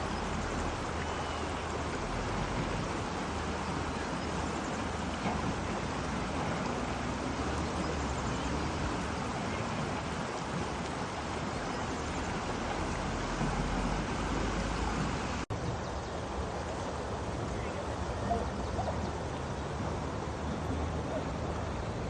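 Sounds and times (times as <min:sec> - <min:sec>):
stream rushing: 0:00.0 - 0:22.0.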